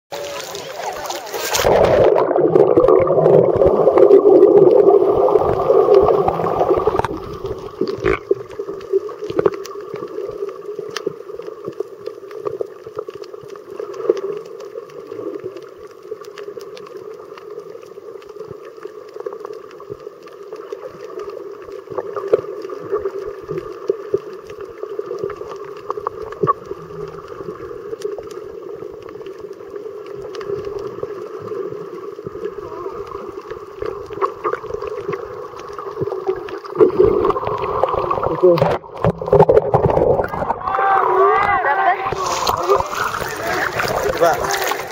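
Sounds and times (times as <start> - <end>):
underwater rush of water: 0.1 - 44.9.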